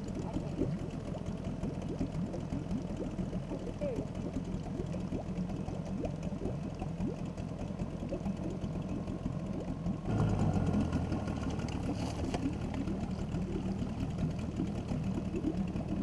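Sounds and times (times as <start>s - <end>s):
outboard motor running slowly: 0.0s - 16.0s.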